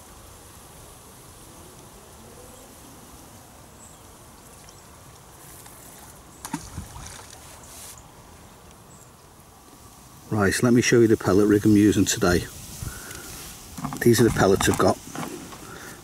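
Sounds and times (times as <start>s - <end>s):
faint insect buzz: 0.0s - 16.0s.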